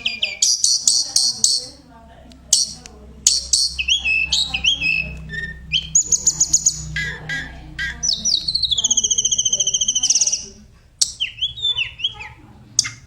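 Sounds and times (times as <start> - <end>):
bird whistled song: 0.0 - 1.8, 2.5 - 13.0
steady low hum: 0.0 - 13.0.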